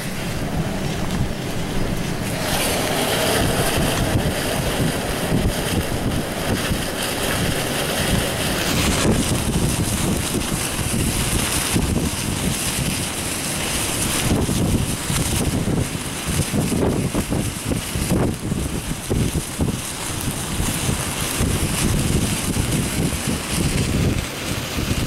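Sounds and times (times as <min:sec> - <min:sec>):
gusty wind on microphone: 0:00.0 - 0:25.0
low wind rumble: 0:00.0 - 0:25.0.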